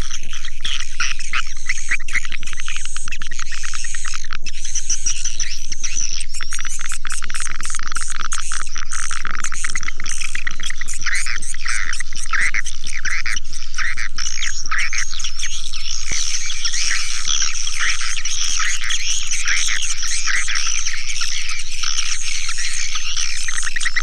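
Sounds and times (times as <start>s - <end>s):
swiftlets twittering and chirping: 0.0s - 24.0s.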